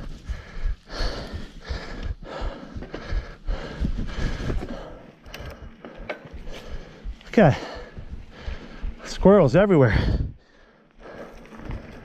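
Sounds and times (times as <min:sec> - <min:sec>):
person breathing hard: 0:00.0 - 0:09.2, 0:09.9 - 0:12.0
bike rumbling on dirt trail: 0:00.0 - 0:12.0.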